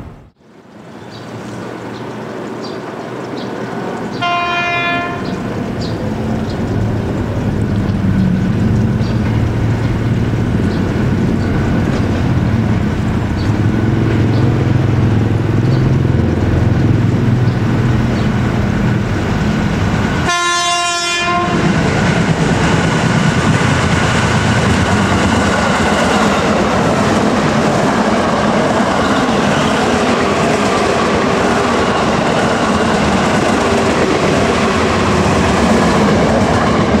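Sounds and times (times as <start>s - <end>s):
train low rumble: 1.5s - 37.0s
train wheels clattering on rails: 1.8s - 37.0s.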